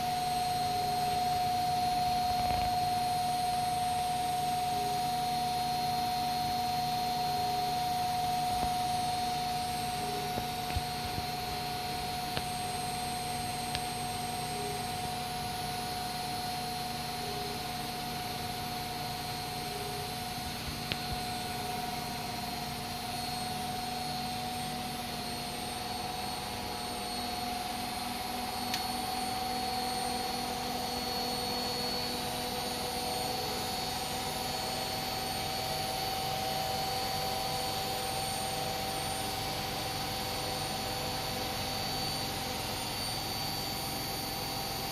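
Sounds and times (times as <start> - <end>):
washing machine whine and hum: 0.0 - 44.9.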